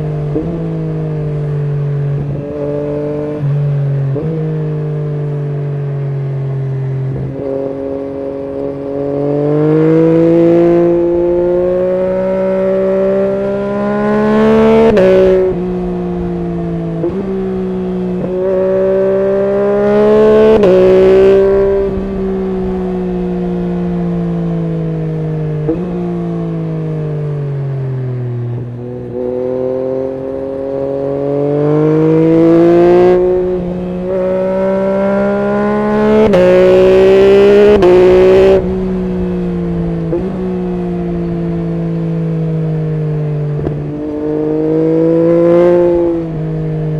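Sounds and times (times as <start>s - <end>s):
motorcycle engine accelerating hard: 0.0s - 46.9s.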